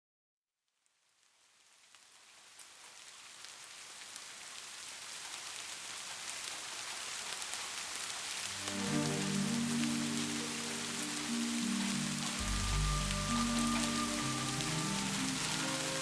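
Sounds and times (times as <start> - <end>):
steady rain: 0.9 - 16.0.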